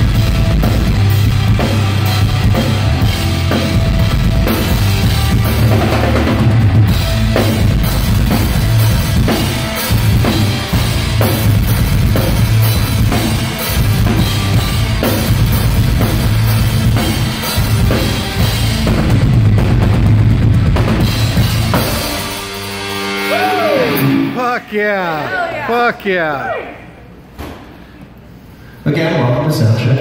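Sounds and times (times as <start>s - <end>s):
drum kit: 0.0s - 25.2s
heavy rock band playing: 0.0s - 26.3s.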